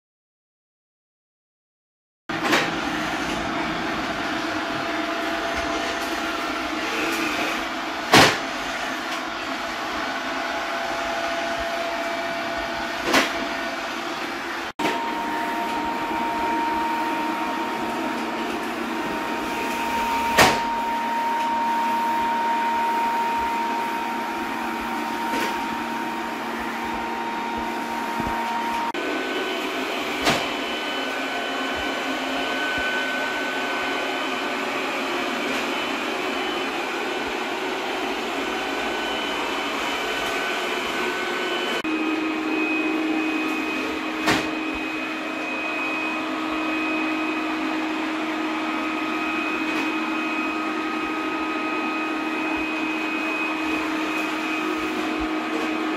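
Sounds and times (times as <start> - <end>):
robot vacuum fan humming: 2.4 - 55.9.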